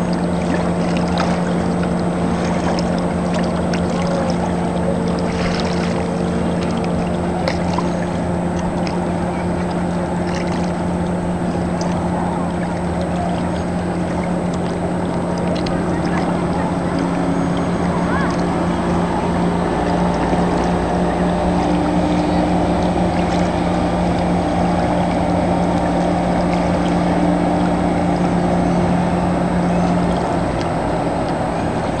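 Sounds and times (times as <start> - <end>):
outboard motor drone: 0.0 - 32.0.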